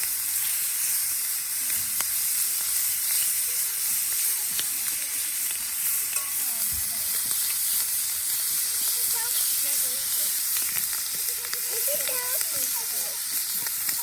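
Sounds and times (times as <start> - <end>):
meat sizzling in a skillet: 0.0 - 14.0.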